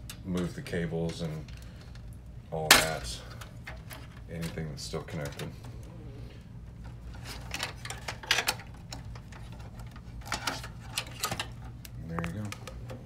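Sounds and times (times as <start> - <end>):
cables rattling against metal chassis: 0.0 - 6.0, 6.7 - 13.0
low steady hum: 0.0 - 13.0.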